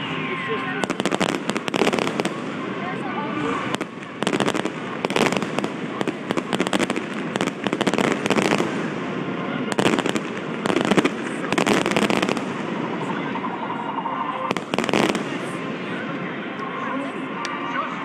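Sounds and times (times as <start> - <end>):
fireworks bangs and crackles: 0.3 - 16.6.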